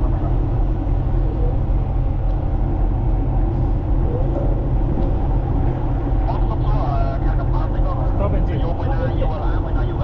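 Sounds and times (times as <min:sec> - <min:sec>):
ship diesel engine rumbling: 0:00.0 - 0:10.0.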